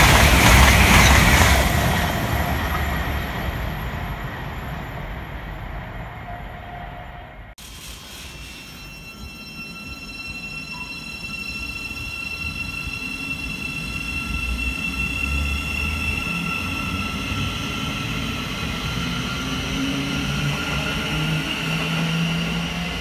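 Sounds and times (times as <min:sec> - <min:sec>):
electric train whining: 0:00.0 - 0:23.0.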